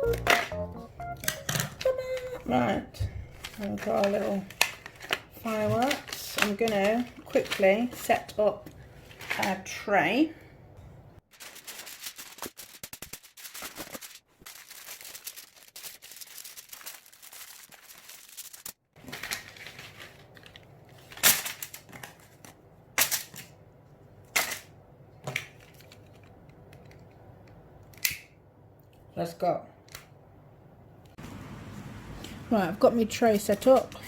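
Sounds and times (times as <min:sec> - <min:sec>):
crackling rustling handling noise: 0:00.0 - 0:09.9, 0:11.2 - 0:28.1, 0:31.2 - 0:34.0.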